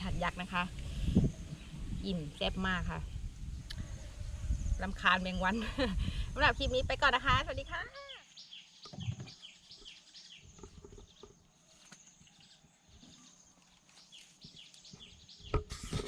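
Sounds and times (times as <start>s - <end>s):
faint birds chirping: 0.2s - 16.0s.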